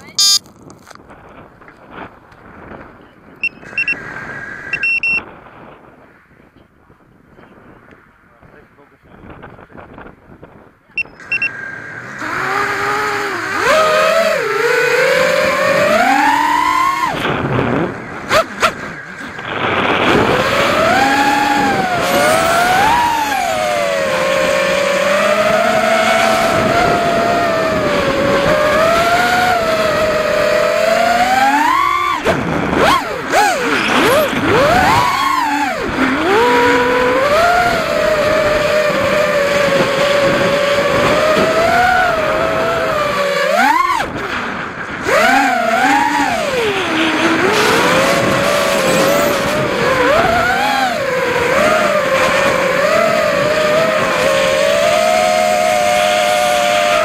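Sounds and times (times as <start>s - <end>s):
quadcopter motors whining: 0.0s - 0.4s, 10.9s - 57.0s.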